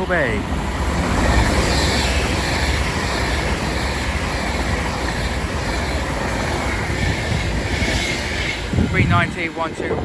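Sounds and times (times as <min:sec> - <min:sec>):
electric train passing: 0:00.0 - 0:10.0.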